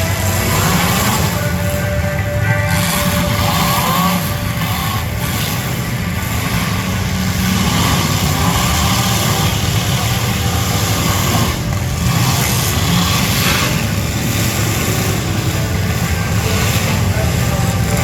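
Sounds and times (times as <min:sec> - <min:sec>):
car engines running loudly: 0:00.0 - 0:18.0.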